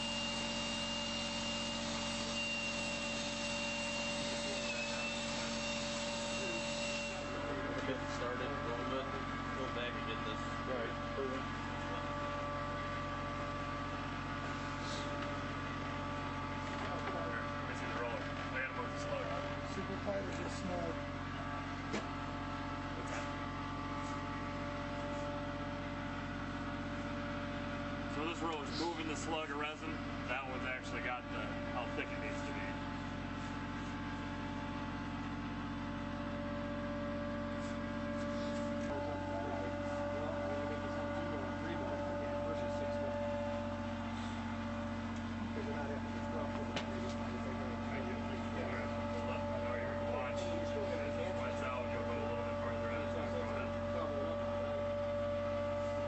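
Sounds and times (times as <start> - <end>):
constant whine: 0.0 - 56.0
machine hum with constant tones: 0.0 - 56.0.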